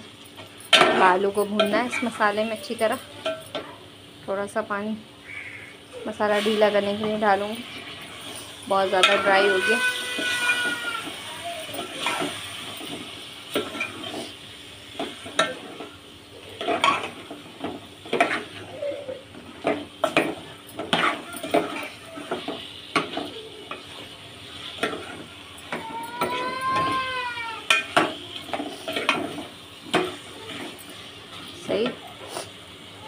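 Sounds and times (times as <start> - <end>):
food sizzling in pot: 0.0 - 33.0.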